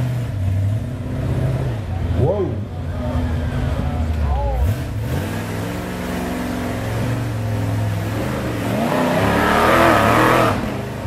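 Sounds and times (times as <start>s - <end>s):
buggy engine revving under load: 0.0s - 11.0s.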